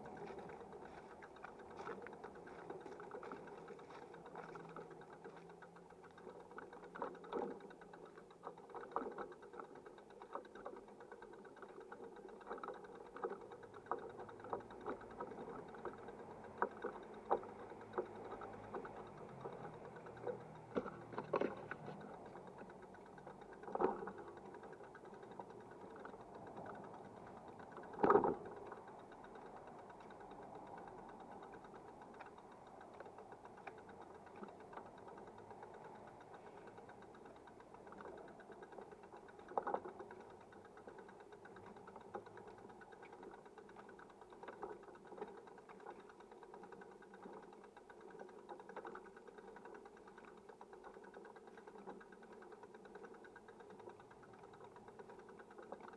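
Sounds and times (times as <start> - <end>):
steady running noise: 0.0 - 55.9.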